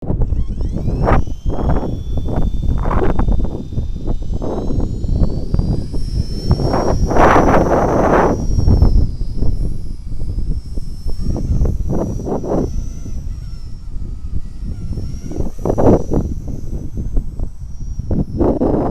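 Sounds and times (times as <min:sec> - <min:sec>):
model helicopter rotor whine: 0:00.0 - 0:18.9
wind buffeting microphone: 0:00.0 - 0:18.9.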